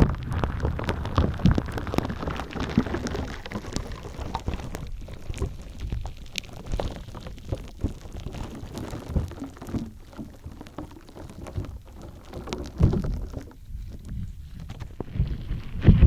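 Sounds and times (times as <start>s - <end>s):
gritty slime crackling and squelching: 0.0s - 16.0s.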